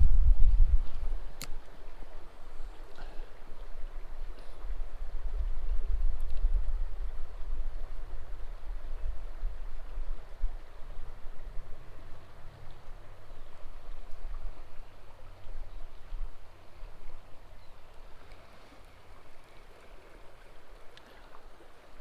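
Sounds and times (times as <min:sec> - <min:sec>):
low rumble on microphone: 0:00.0 - 0:20.9
stream water running: 0:00.0 - 0:22.0.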